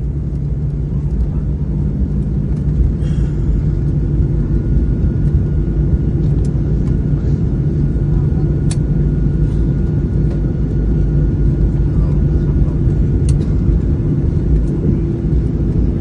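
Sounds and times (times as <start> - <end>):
airplane cabin rumble: 0.0 - 16.0
jet engine hum: 0.0 - 16.0.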